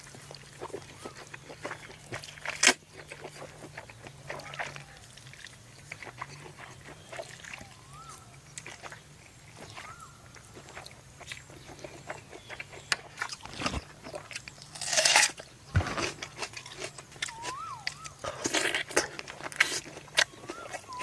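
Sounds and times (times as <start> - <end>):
crunching and chewing: 0.0 - 21.0.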